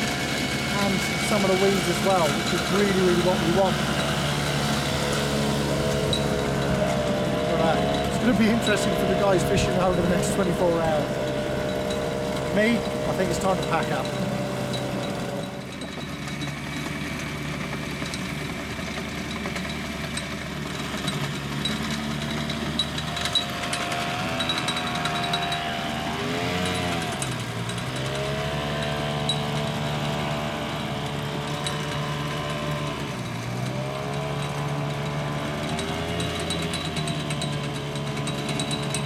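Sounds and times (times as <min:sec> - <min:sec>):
small boat engine running: 0:00.0 - 0:39.0.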